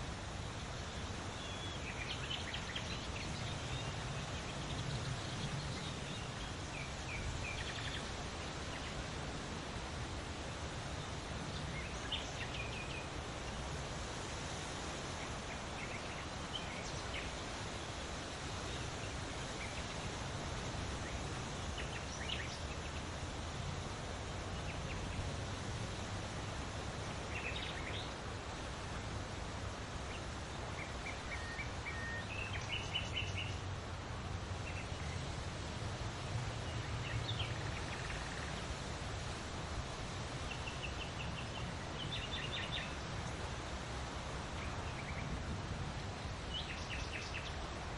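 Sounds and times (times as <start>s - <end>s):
steady breeze: 0.0s - 47.9s.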